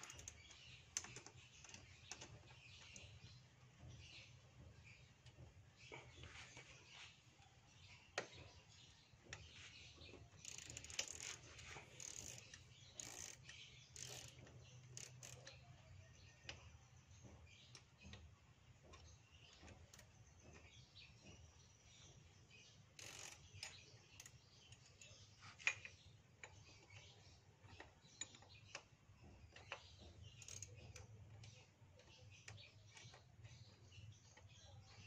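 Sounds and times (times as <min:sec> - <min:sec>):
wrenches clicking and scraping: 0:00.0 - 0:07.0, 0:08.1 - 0:35.0.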